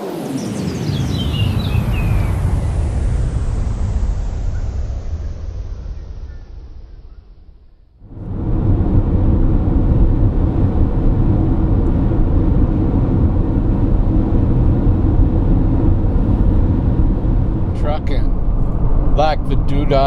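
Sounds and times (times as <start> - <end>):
car road and engine rumble: 0.8 - 20.0.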